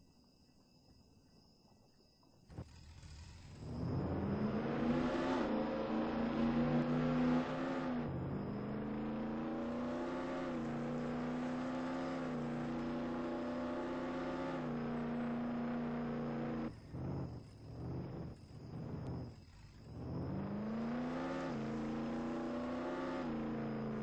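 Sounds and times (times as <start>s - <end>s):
car engine running: 2.6s - 24.0s.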